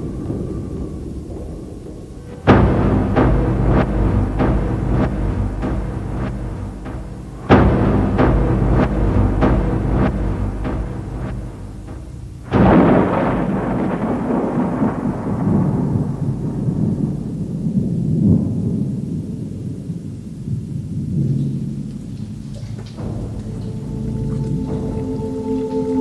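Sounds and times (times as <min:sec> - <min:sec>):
thunderclap: 0:00.0 - 0:26.0.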